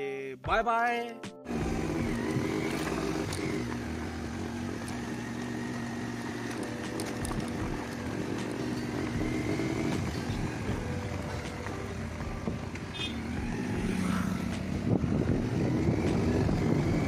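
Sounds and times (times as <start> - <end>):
motorcycle engine running: 1.5 - 17.0.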